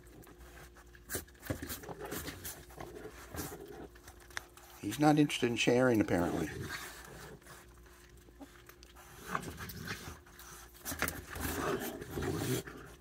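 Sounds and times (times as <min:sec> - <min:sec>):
raccoon growling: 0:00.0 - 0:13.0.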